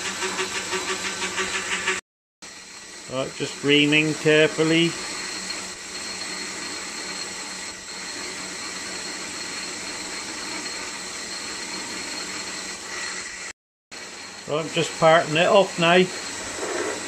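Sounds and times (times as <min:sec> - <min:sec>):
metal lathe humming and whining: 0:02.5 - 0:17.0.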